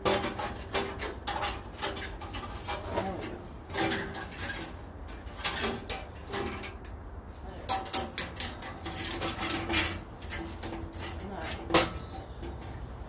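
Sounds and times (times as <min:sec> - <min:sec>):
metal parts clicking and knocking: 0:00.0 - 0:07.0, 0:07.6 - 0:12.7.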